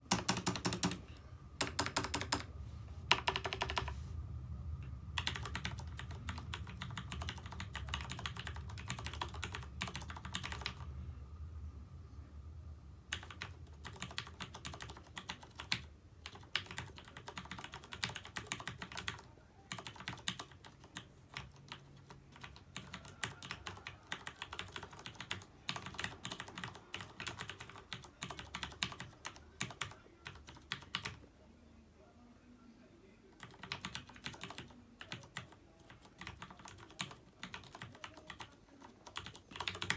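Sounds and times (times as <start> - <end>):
mechanical keyboard typing: 0.0 - 2.5, 3.1 - 4.0, 5.2 - 10.9, 13.1 - 31.2, 33.4 - 39.9.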